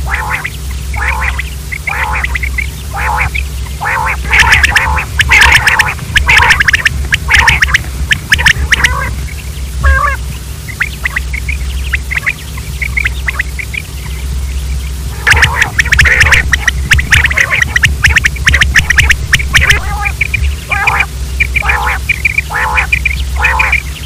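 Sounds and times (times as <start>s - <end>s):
quail calling: 0.0s - 24.0s
steady low hum: 0.0s - 24.0s.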